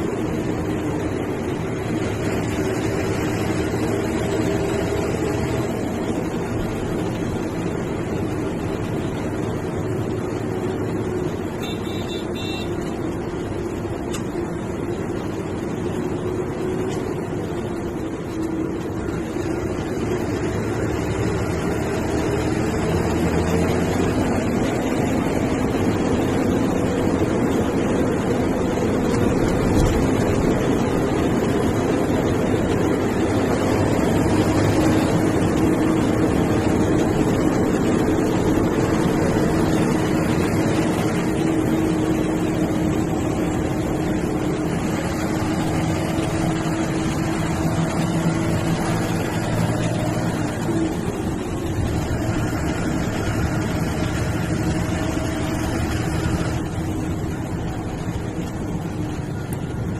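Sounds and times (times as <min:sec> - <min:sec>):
bus diesel engine running: 0:00.0 - 0:59.9
road and tyre noise: 0:00.0 - 0:59.9.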